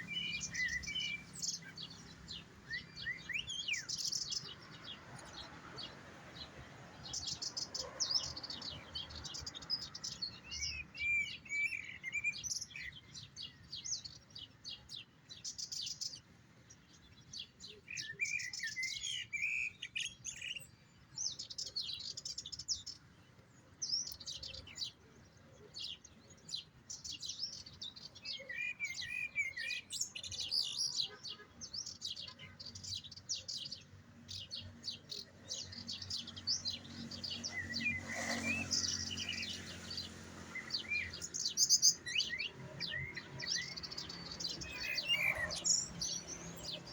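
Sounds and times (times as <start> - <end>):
goldfinch twittering song: 0.0 - 46.9.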